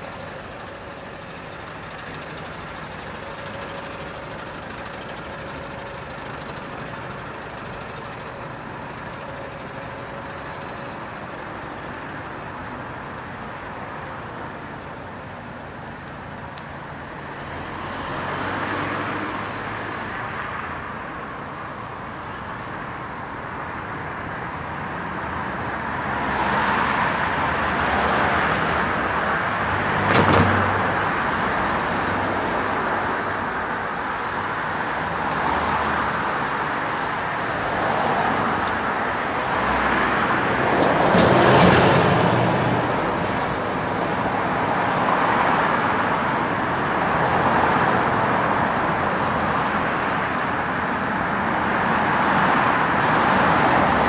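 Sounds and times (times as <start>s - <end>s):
cars passing on street: 0.0s - 54.0s.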